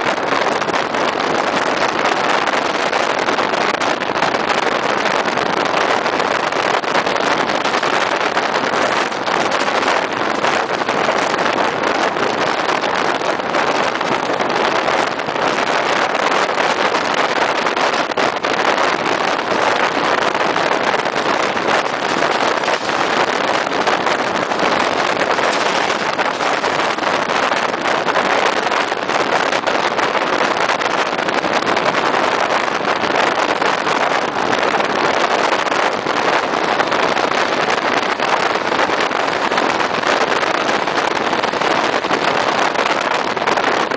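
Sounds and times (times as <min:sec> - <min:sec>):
train rumbling at speed: 0:00.0 - 0:43.9.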